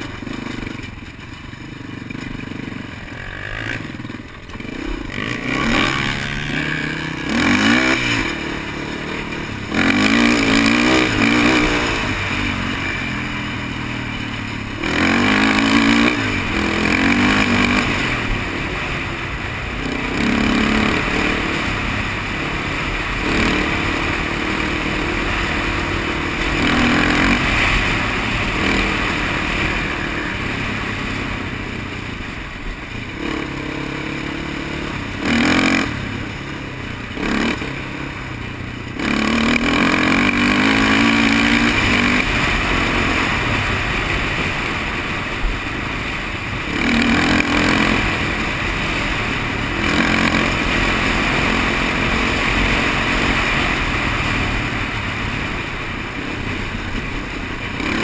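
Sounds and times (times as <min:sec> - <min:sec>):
quad engine revving: 0:00.0 - 0:58.0
rushing wind noise: 0:02.5 - 0:58.0.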